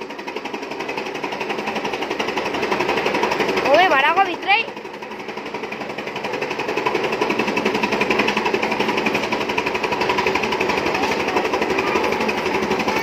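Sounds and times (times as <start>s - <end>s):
chaff cutter chopping fodder: 0.0s - 13.0s.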